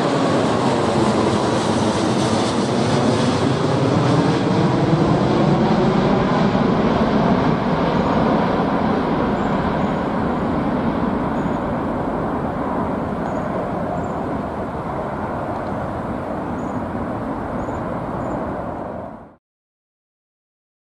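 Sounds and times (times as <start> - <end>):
jet airliner roar: 0.0 - 19.4.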